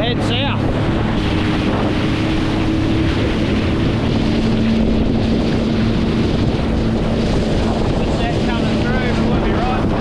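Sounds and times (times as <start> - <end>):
jet ski engine drone: 0.0 - 10.0
water noise: 0.0 - 10.0
wind on microphone: 0.0 - 10.0.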